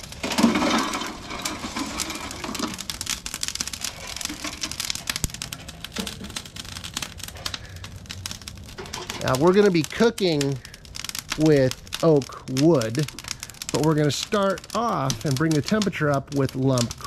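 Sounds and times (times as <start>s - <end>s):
coals crackling: 0.0s - 17.0s
coals tumbling into metal firebox: 0.0s - 17.0s.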